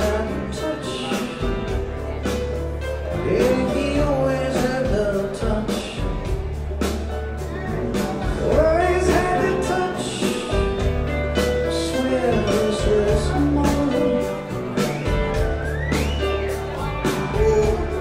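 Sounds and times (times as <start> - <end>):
person singing: 0.0 - 6.4, 7.4 - 18.0
bass line: 0.0 - 18.0
drums: 0.0 - 18.0
rock band playing live: 0.0 - 18.0.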